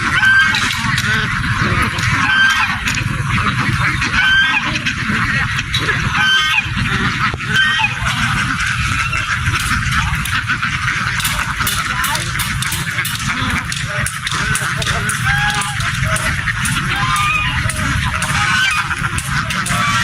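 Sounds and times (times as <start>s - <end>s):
ducks quacking: 0.0s - 20.0s
low rumble: 0.0s - 20.0s.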